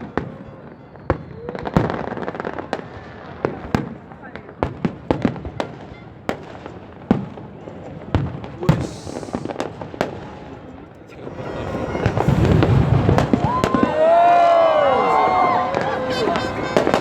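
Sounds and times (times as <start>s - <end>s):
fireworks bursting: 0.0s - 17.0s
fireworks crackling: 0.0s - 17.0s.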